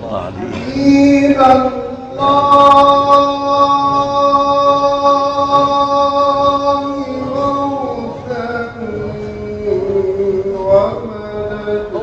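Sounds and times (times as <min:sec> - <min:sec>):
man singing a held chant note: 0:00.0 - 0:12.0.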